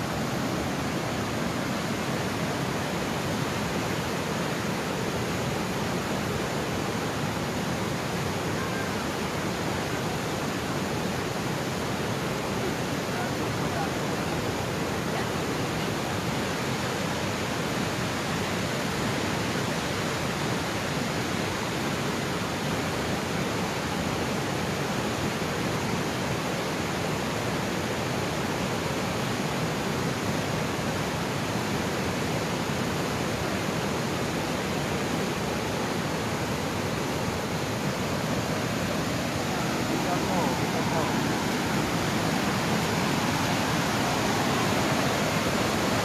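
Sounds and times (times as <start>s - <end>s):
floodwater rushing: 0.0s - 46.0s.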